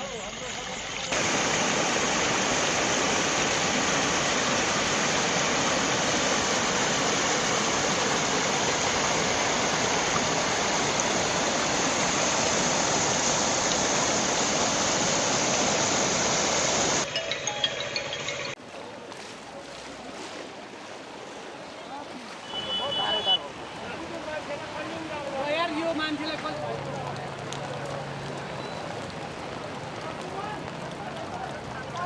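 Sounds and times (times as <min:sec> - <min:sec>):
floodwater rushing: 0:00.0 - 0:32.0.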